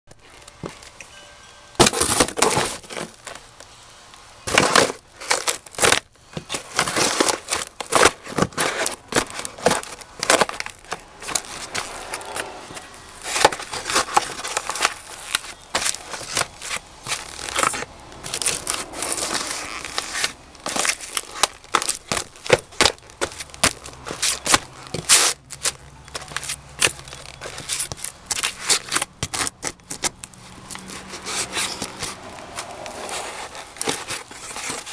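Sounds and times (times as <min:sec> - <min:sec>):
cardboard crunching under boots: 0:01.8 - 0:03.6, 0:04.4 - 0:34.9
boot soles scuffing: 0:06.4 - 0:34.9.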